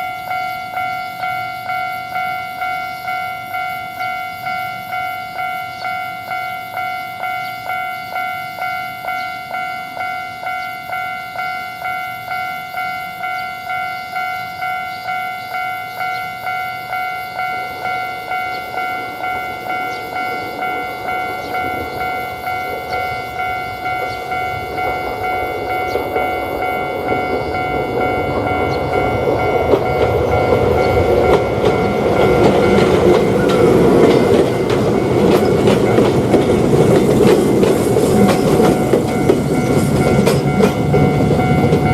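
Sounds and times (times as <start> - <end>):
level crossing warning bell ringing: 0.0 - 41.9
train rumble and wheel noise: 0.0 - 41.9.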